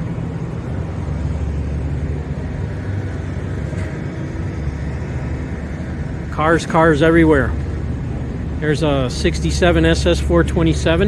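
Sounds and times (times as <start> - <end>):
busy exhibition hall rumble: 0.0 - 11.0.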